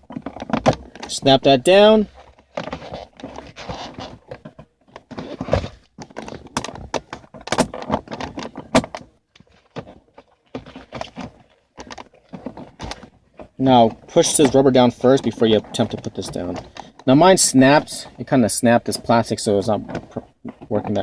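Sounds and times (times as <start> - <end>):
hard plastic parts clicking and scraping: 0.0 - 21.0.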